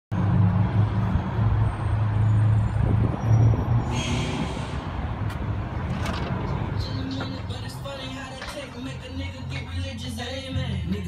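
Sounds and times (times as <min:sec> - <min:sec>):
street traffic noise: 0:00.1 - 0:11.0
low engine rumble: 0:00.2 - 0:11.0.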